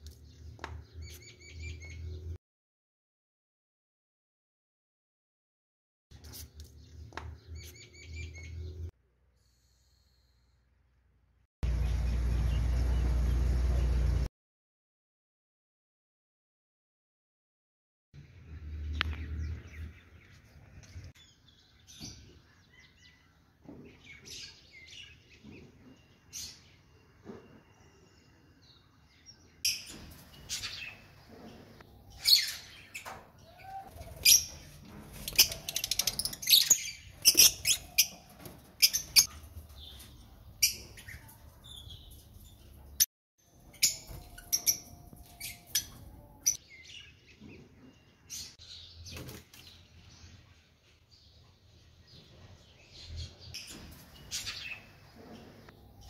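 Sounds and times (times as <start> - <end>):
caged birds chirping: 0.0 - 2.4, 6.2 - 8.9, 11.6 - 14.3, 18.4 - 56.0.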